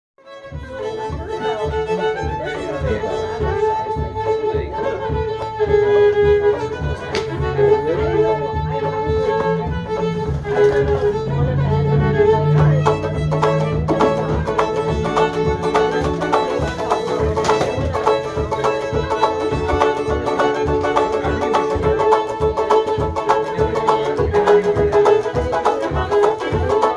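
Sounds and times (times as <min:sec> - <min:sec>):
banjo plucked rhythm: 0:00.2 - 0:26.9
bowed fiddle melody: 0:00.2 - 0:26.9.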